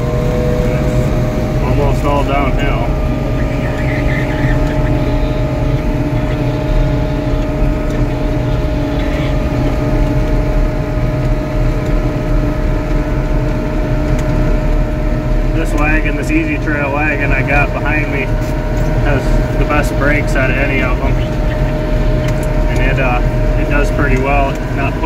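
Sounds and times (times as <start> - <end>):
tractor diesel engine rumbling: 0.0 - 25.0.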